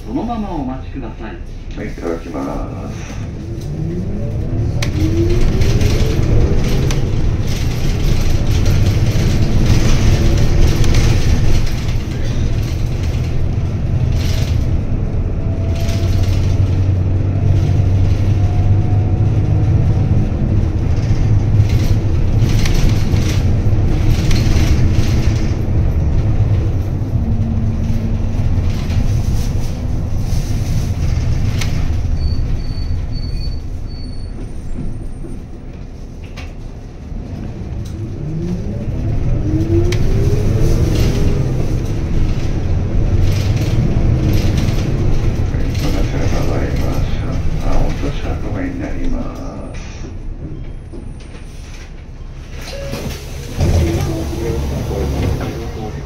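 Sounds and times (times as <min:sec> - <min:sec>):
bus engine accelerating: 0:00.0 - 0:56.0.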